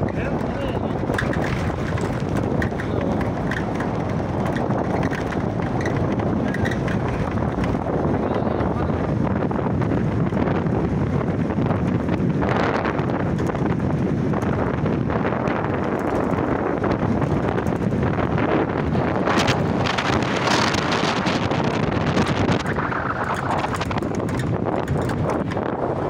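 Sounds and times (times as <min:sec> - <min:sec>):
road noise: 0:00.0 - 0:26.0
wind rushing over microphone: 0:00.0 - 0:26.0.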